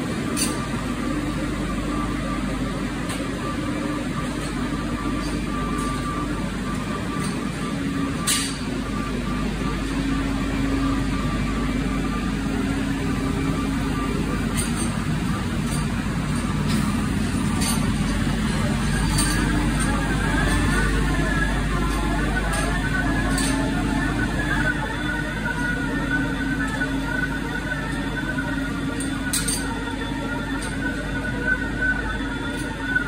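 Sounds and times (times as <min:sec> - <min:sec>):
faint held whine: 0:00.0 - 0:33.0
feed mixer engine drone: 0:00.0 - 0:33.0.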